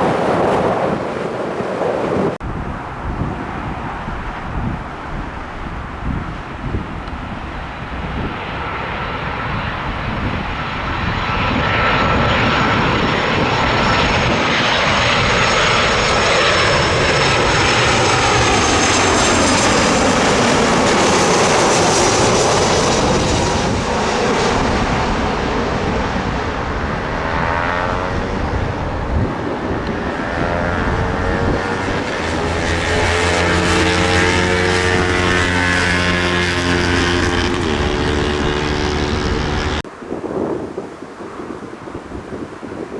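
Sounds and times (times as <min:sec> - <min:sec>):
aircraft engine roar: 0:00.0 - 0:42.9.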